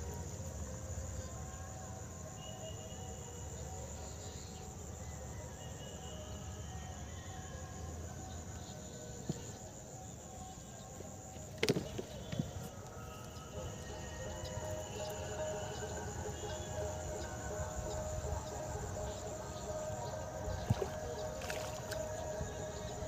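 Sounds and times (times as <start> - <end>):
insect trill: 0.0 - 23.0.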